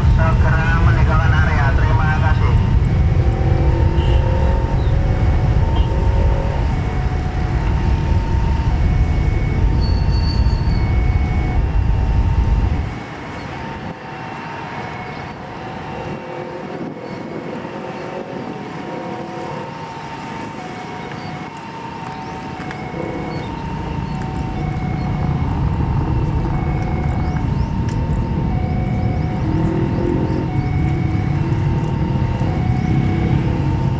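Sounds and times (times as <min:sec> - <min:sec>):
jet blast rumble: 0:00.0 - 0:16.2, 0:20.2 - 0:33.9
jet engine hum with whine: 0:00.0 - 0:33.9.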